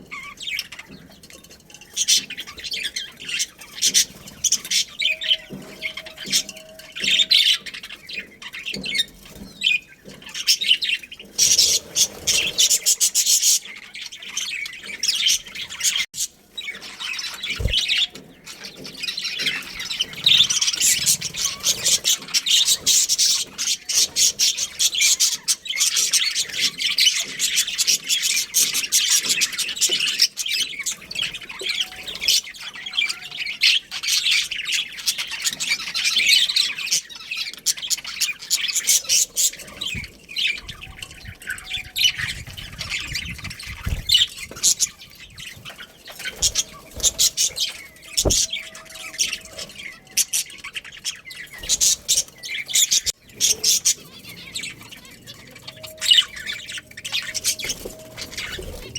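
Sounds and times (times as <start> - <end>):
budgerigars chirping and squawking: 0.0 - 58.9.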